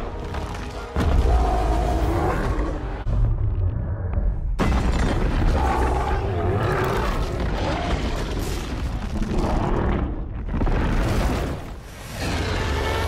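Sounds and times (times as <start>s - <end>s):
explosion and fire rumbling: 0.0s - 13.0s.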